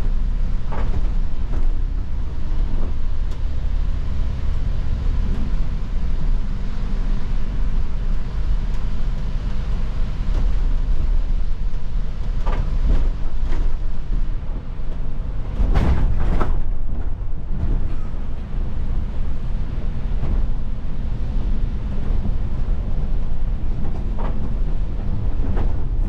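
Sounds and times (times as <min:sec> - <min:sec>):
bus engine rumbling: 0:00.0 - 0:26.0
tyres on wet road: 0:00.0 - 0:26.0.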